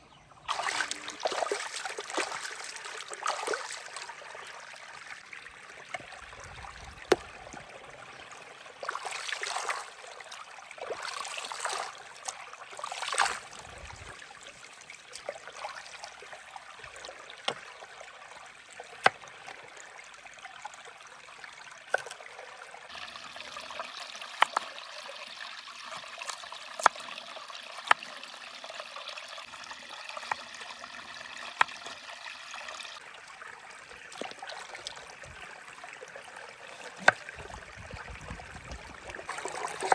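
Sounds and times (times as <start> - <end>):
running water rushing: 0.5 - 20.2, 21.2 - 39.9.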